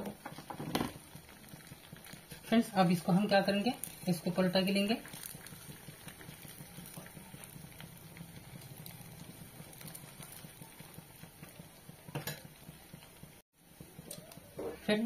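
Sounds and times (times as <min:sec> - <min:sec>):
deep-frying sizzle and crackles: 0:00.0 - 0:15.0.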